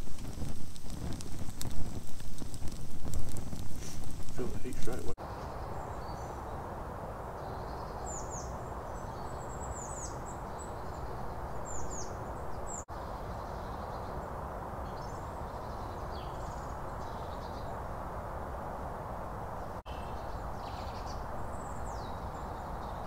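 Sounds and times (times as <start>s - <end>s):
small birds chirping: 1.0s - 6.7s, 7.3s - 17.8s, 19.6s - 23.0s.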